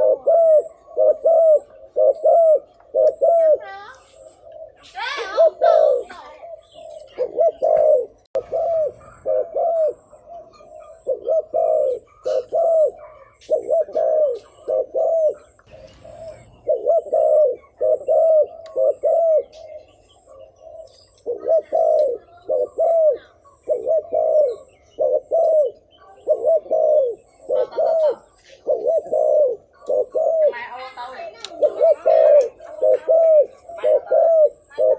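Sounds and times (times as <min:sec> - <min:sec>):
dove cooing: 0:00.0 - 0:34.9.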